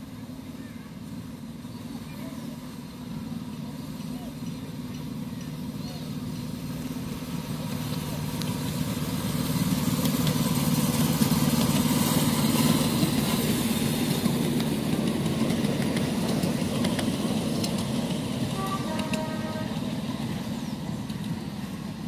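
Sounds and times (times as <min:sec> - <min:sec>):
miniature locomotive engine humming: 0:00.0 - 0:22.0.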